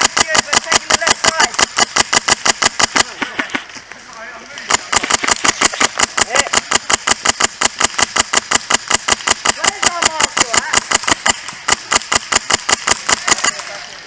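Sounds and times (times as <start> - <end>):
airsoft gun firing full auto: 0.0 - 3.5, 4.7 - 13.7.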